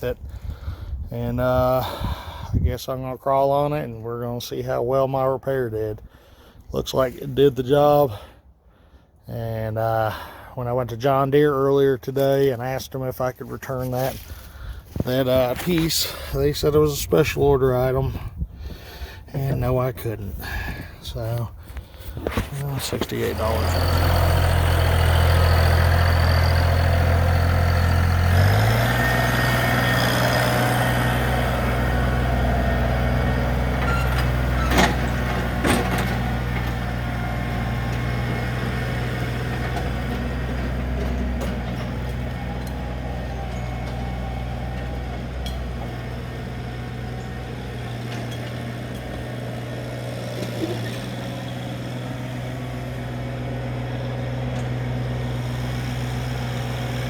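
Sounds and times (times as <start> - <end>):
tractor diesel engine running: 5.5 - 57.0.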